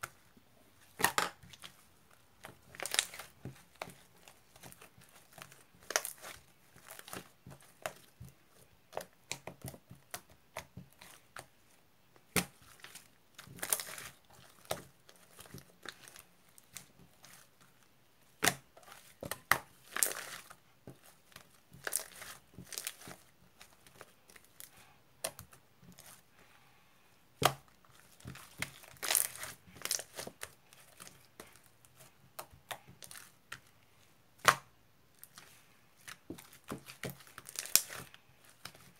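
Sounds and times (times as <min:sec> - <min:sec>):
material crinkling and rustling: 0:00.0 - 0:26.3, 0:27.5 - 0:34.0, 0:34.6 - 0:38.9.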